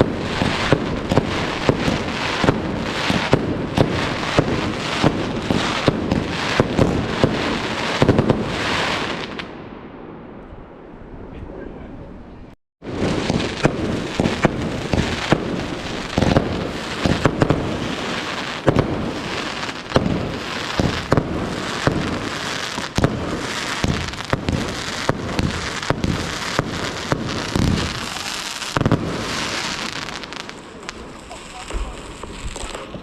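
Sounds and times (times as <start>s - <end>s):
fireworks crackling and banging: 0.0s - 10.5s, 12.8s - 33.0s.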